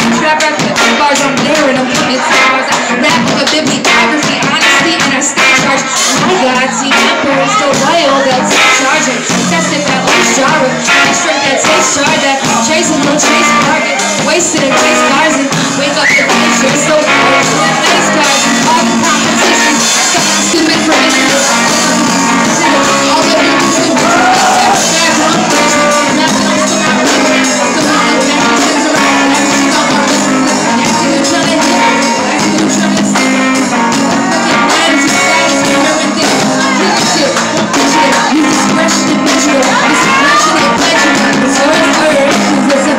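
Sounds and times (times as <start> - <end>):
loud backing music: 0.0 - 42.9
rapping into a microphone: 0.0 - 42.9.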